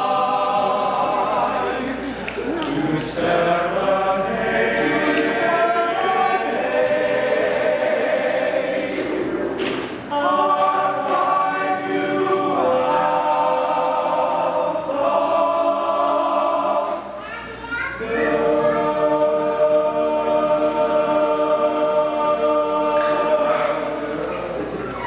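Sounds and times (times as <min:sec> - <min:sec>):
choir singing held notes: 0:00.0 - 0:17.2, 0:18.0 - 0:25.0.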